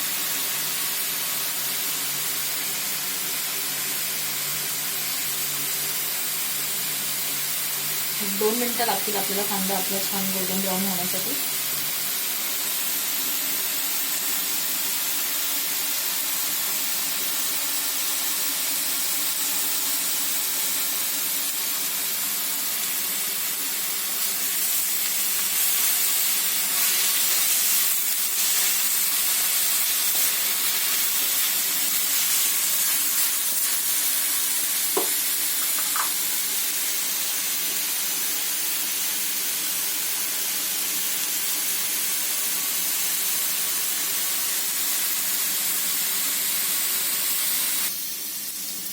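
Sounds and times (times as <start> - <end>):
onions sizzling in oil: 0.0 - 48.9.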